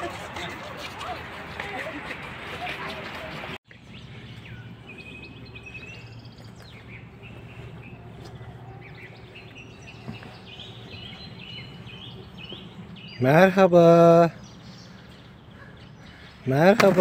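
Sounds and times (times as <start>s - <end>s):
small birds chirping: 3.4s - 17.0s.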